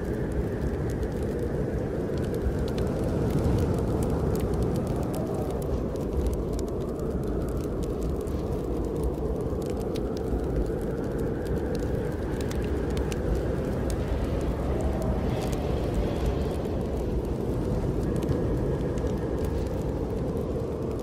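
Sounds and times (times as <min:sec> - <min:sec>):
snowstorm wind roaring: 0:00.0 - 0:21.0
wood fire crackling and popping: 0:00.0 - 0:21.0.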